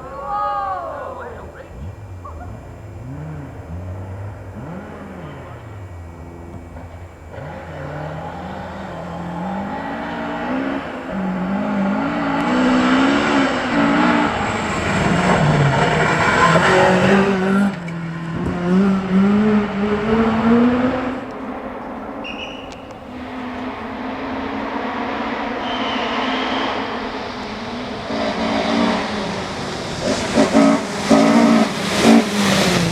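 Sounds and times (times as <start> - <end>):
rally car engine accelerating: 0.0 - 32.9.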